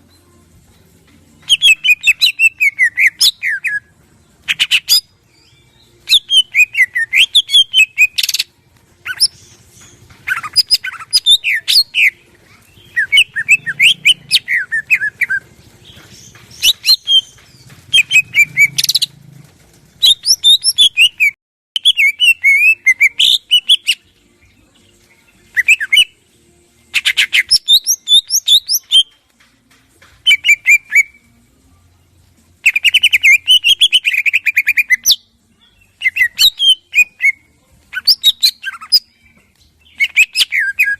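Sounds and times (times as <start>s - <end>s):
bird singing varied song: 0.0s - 19.2s, 20.0s - 40.9s.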